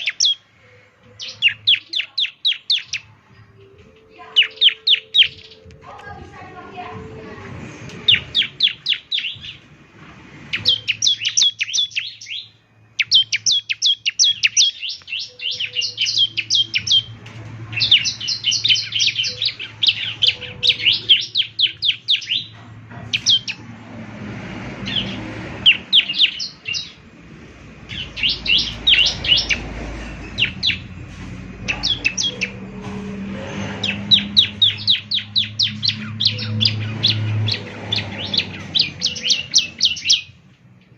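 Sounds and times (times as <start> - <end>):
bird chirping rapidly: 0.0 - 0.5, 1.2 - 3.2, 3.9 - 7.3, 8.0 - 9.7, 10.4 - 27.2, 27.8 - 40.9.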